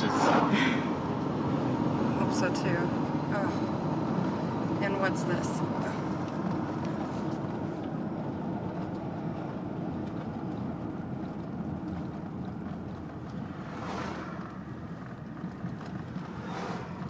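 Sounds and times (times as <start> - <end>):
road and engine rumble in vehicle: 0.0 - 17.0.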